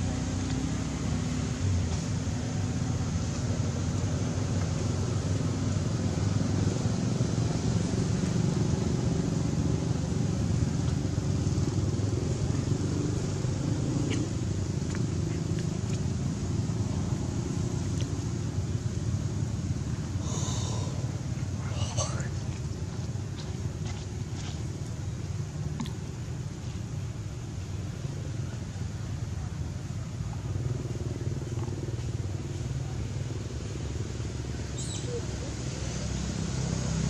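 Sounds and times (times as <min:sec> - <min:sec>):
engine idling rumble: 0:00.0 - 0:37.0.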